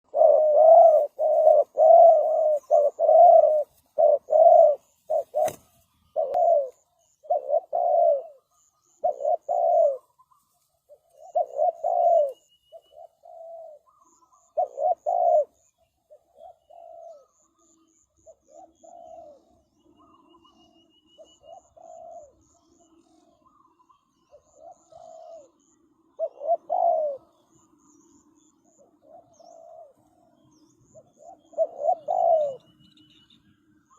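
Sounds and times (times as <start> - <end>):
doves cooing: 0.0 - 33.9
small bird chirping: 0.1 - 33.9.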